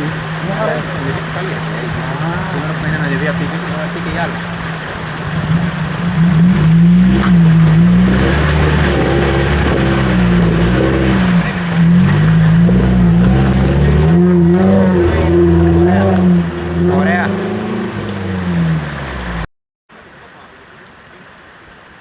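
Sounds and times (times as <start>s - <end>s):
vehicle engine revving under load: 0.0s - 19.5s.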